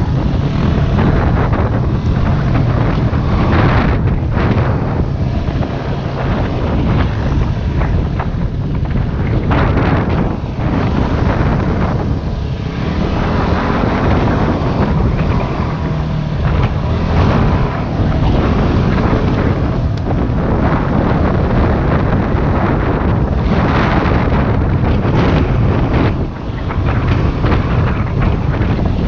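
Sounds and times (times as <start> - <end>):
dirt bike engine running: 0.0 - 29.0
wind buffeting microphone: 0.0 - 29.0.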